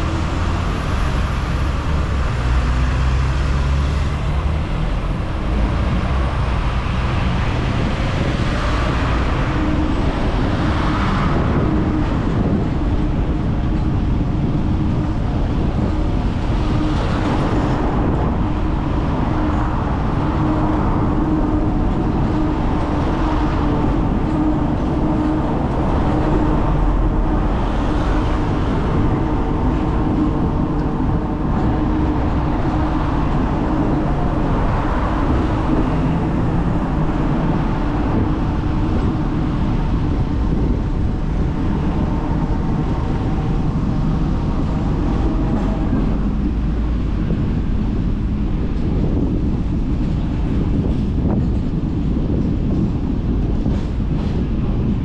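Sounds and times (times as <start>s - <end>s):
tram hum: 0.0s - 55.0s
tram rumbling: 0.0s - 55.0s.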